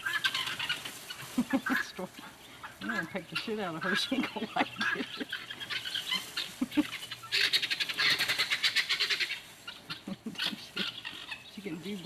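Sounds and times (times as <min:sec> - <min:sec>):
chickens clucking and squawking: 0:00.0 - 0:12.0.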